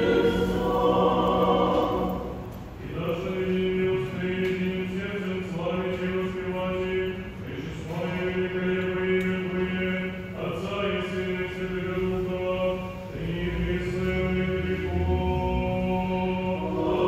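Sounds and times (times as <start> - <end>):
church chant in held notes: 0.0 - 17.0.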